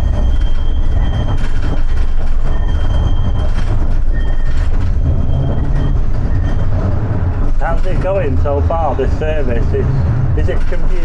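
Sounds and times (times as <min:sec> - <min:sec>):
tram wheels rumbling: 0:00.0 - 0:11.0.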